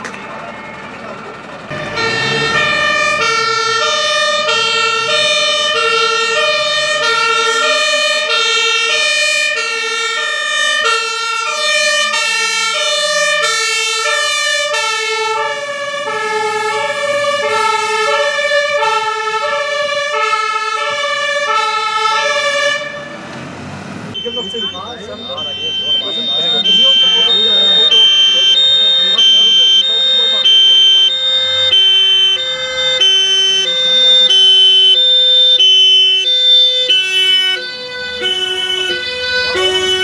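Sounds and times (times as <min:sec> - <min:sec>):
fire truck two-tone horn: 0:01.7 - 0:23.3, 0:24.2 - 0:40.0.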